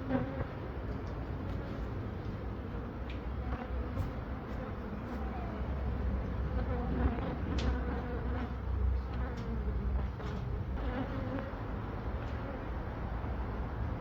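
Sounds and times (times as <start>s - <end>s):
bees buzzing: 1.6s - 12.8s.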